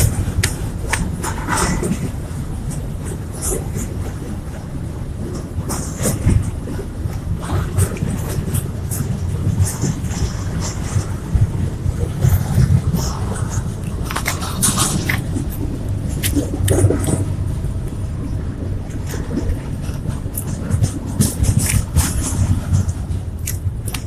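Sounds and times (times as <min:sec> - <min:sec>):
freight train rumbling: 0:00.0 - 0:24.0
wheels clicking and squealing on rails: 0:00.0 - 0:24.0.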